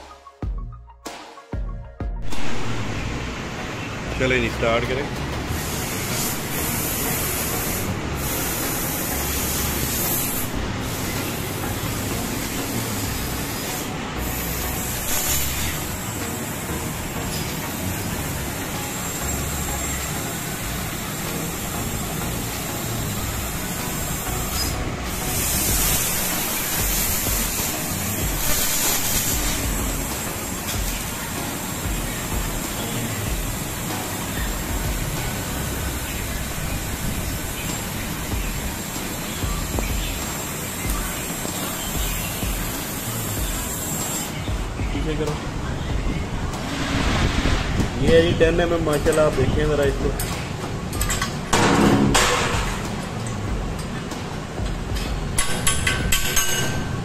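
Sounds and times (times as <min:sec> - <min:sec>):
laser cutter hissing: 0:02.3 - 0:51.0.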